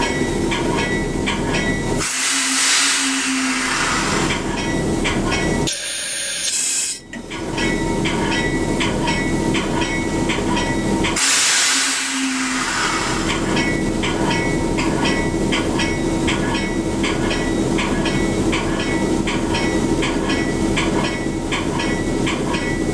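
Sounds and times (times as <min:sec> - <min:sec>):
train humming: 0:00.0 - 0:22.9.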